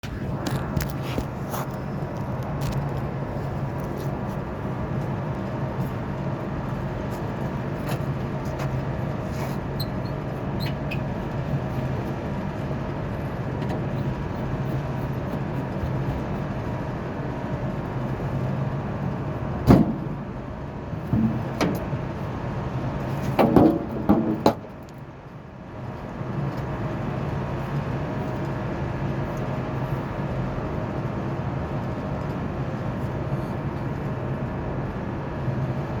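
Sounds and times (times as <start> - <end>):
hvac unit humming: 0.0 - 36.0.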